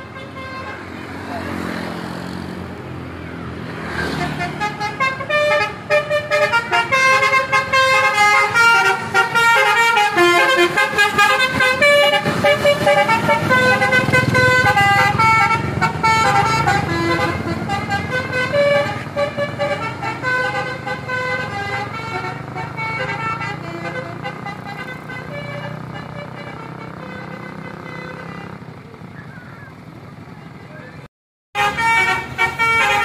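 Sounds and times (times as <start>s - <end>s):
multi-tone air horn melody: 0.0s - 1.1s, 4.2s - 28.6s, 31.6s - 33.0s
engine rumble: 0.0s - 33.0s.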